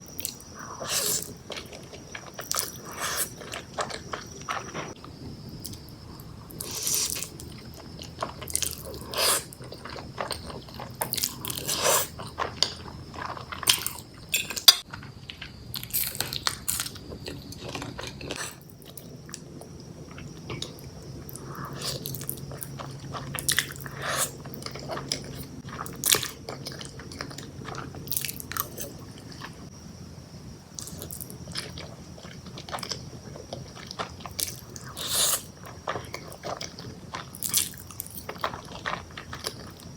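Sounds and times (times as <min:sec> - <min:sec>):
person chewing food: 0:00.1 - 0:05.0, 0:06.5 - 0:29.6, 0:30.8 - 0:39.9.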